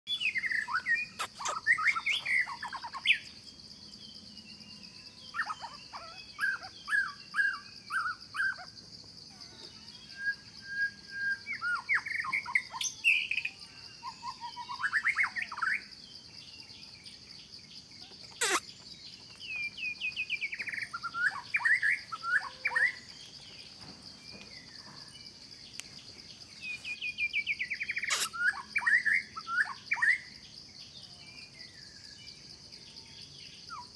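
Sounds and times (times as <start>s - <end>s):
birds singing chirping phrases: 0.1s - 33.9s
high insect drone: 0.2s - 33.8s.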